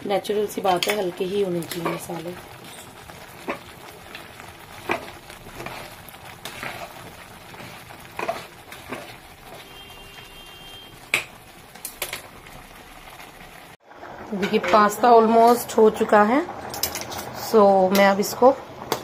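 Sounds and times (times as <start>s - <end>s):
sauce simmering with pops: 0.0s - 17.3s.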